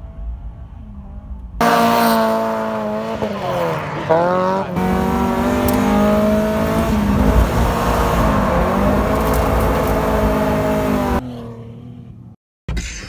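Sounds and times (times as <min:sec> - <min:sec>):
car engines at high revs: 0:00.0 - 0:12.4.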